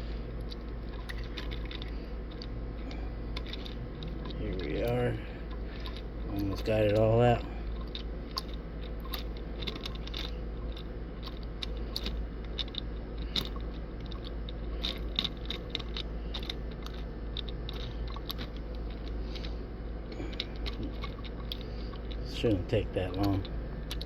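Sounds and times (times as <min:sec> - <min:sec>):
steady low hum: 0:00.0 - 0:24.0
plastic parts crunching and clicking: 0:00.4 - 0:24.0.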